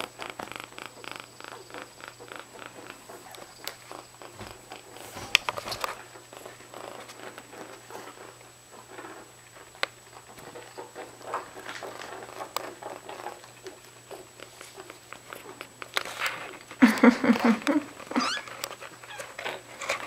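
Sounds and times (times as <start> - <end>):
kitten purring: 0.0 - 9.2, 10.4 - 20.0.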